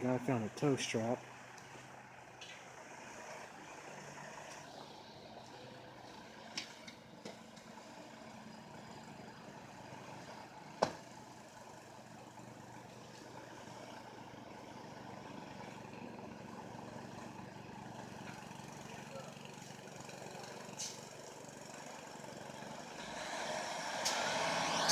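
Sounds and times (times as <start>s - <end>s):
truck engine idling: 0.0s - 23.2s.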